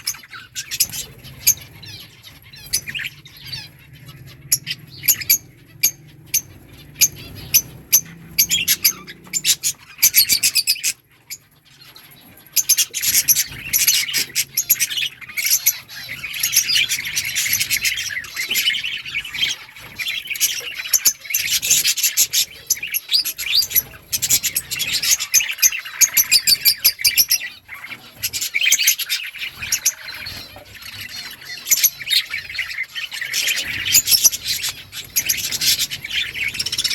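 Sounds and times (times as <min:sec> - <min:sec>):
budgerigars chattering: 0:00.0 - 0:36.9.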